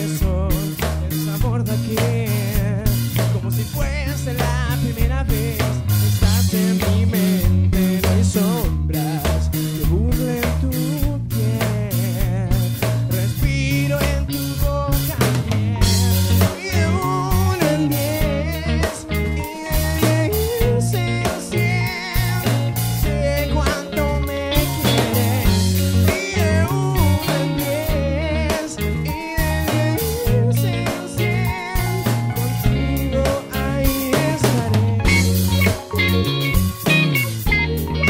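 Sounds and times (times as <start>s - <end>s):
man singing with vibrato: 0.0s - 36.6s
drum kit: 0.0s - 38.0s
guitar: 0.0s - 38.0s.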